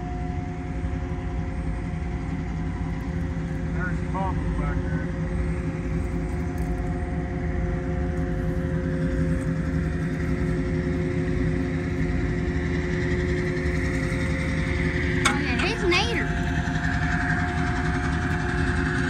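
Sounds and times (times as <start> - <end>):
engine drone: 0.0 - 19.0
high-pitched whine: 0.0 - 19.0.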